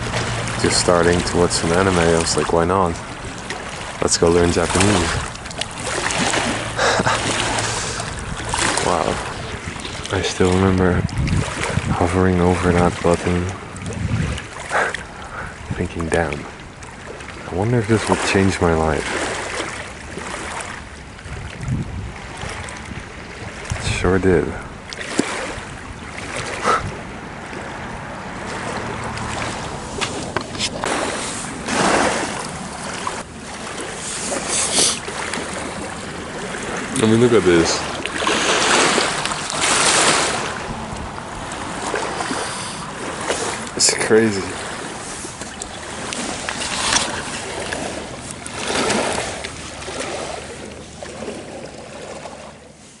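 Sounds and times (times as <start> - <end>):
waves lapping on pebbles: 0.0 - 53.0
wind: 0.0 - 53.0.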